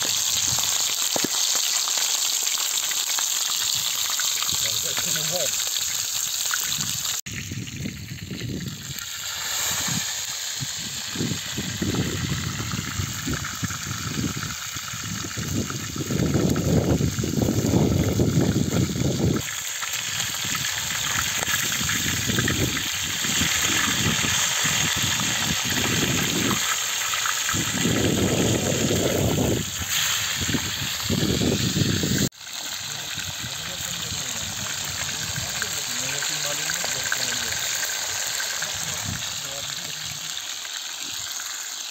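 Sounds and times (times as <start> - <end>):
fish sizzling on a griddle: 0.0 - 41.9.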